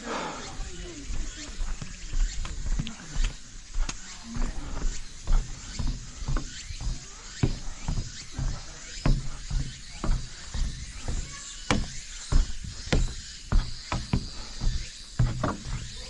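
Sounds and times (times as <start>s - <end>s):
footsteps on trail: 0.0s - 16.0s.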